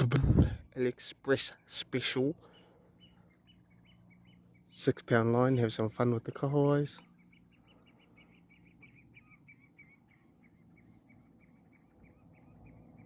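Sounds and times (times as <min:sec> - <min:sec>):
distant bird chirping: 0:01.5 - 0:13.0.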